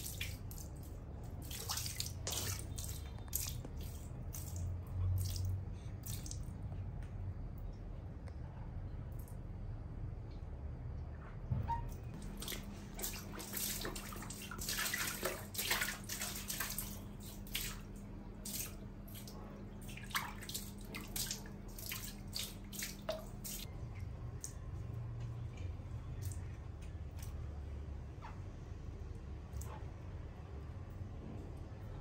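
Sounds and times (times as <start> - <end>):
water splashing in a bathtub: 0.0 - 7.0, 11.7 - 31.9
steady low hum: 0.0 - 32.0.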